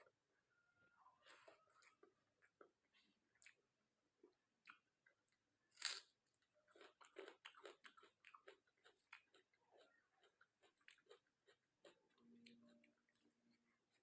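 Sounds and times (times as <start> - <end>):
chewing with wet clicks: 1.8 - 14.0.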